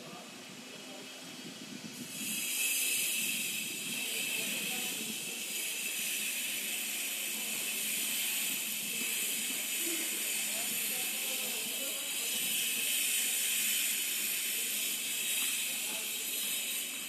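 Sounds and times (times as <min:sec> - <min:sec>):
high-pitched hiss: 0:01.9 - 0:17.0.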